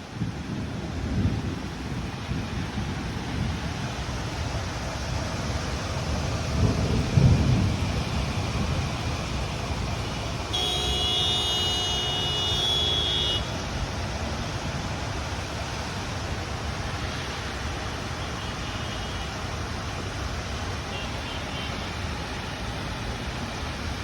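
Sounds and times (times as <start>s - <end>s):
road traffic hiss: 0.0s - 24.0s
steady rain: 0.0s - 24.0s.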